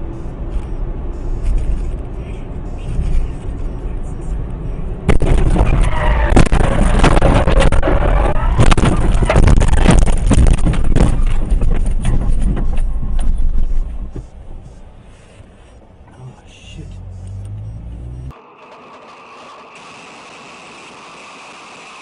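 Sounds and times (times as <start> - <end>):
car rumbling and clattering: 0.0 - 19.7.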